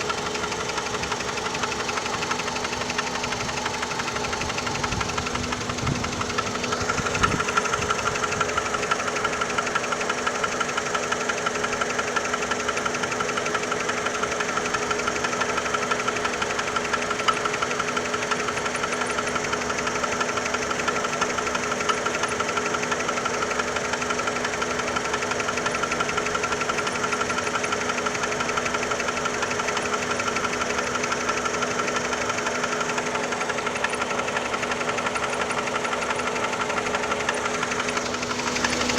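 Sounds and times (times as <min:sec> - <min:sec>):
car engine knocking: 0:00.0 - 0:38.9.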